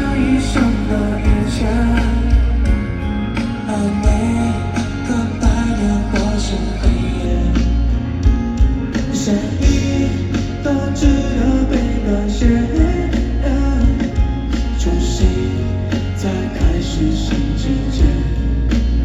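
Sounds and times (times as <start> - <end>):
live pop band music: 0.0 - 19.0
steady drum beat: 0.0 - 19.0.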